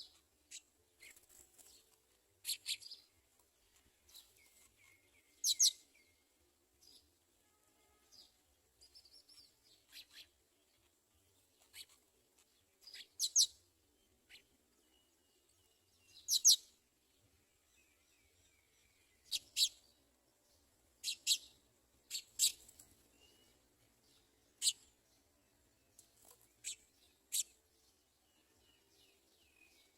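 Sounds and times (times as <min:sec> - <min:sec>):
sparrow chirping: 0:00.0 - 0:07.1, 0:08.1 - 0:29.9.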